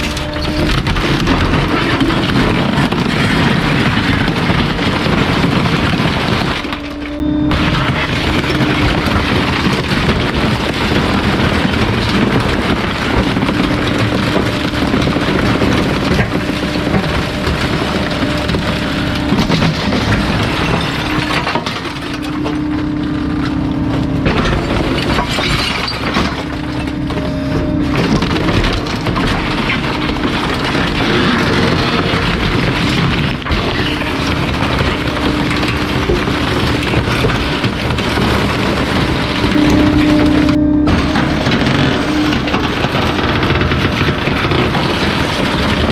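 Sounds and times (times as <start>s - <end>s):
compactor cracking and breaking items: 0.0s - 45.9s
hydraulic hum: 0.0s - 45.9s.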